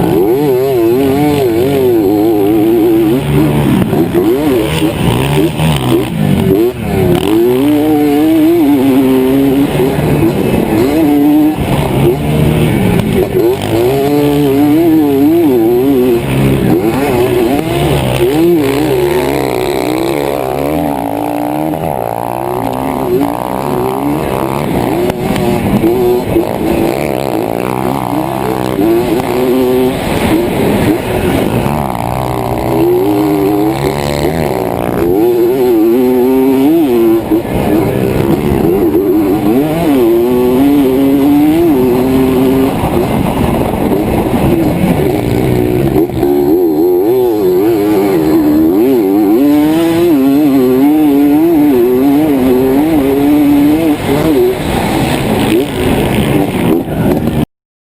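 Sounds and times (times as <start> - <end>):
dirt bike engine revving: 0.0 - 57.5.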